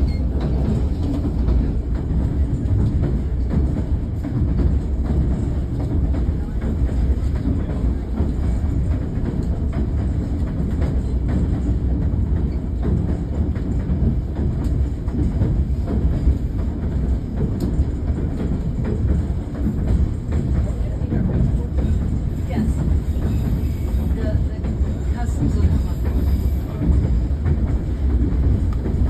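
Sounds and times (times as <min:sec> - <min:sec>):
clicks and rattles of train car: 0:00.0 - 0:29.0
train coach rumbling: 0:00.0 - 0:29.0.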